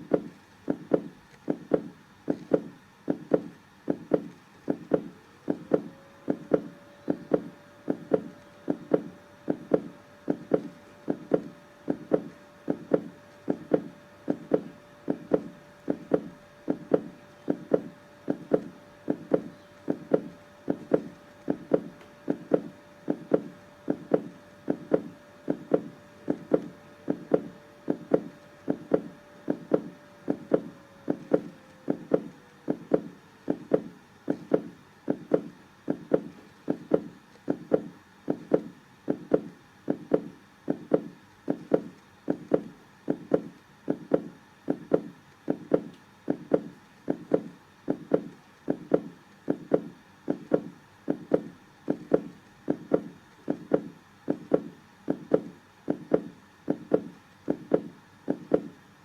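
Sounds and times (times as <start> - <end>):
heartbeat thumps: 0.0 - 58.8.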